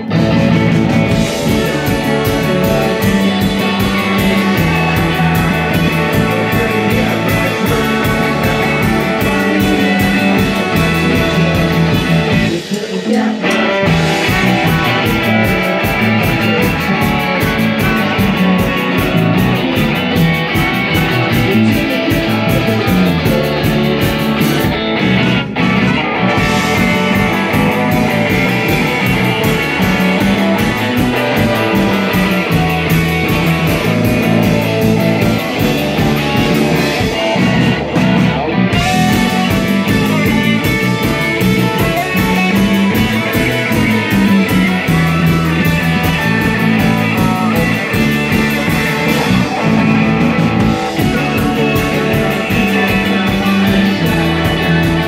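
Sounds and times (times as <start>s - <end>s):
drum kit beat: 0.0s - 55.0s
electric bass: 0.0s - 55.0s
electric guitars: 0.0s - 55.0s.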